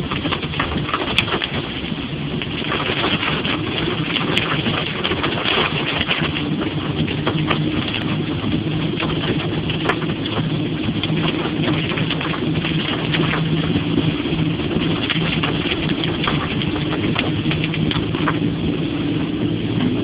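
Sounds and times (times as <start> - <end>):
car engine hum: 0.0 - 20.0.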